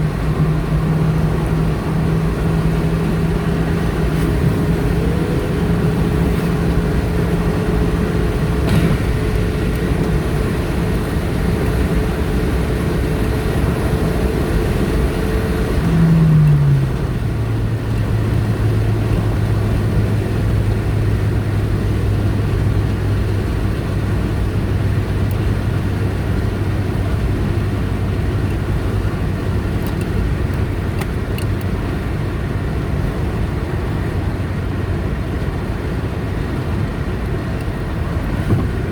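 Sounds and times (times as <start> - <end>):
car engine hum: 0.0 - 38.9
tyre and road noise: 0.0 - 38.9.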